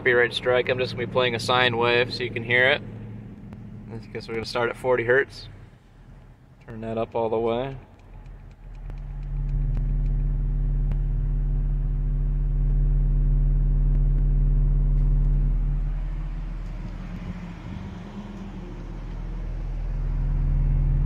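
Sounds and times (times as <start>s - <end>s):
subwoofer deep test tone hum: 0.0s - 7.0s, 8.1s - 21.0s.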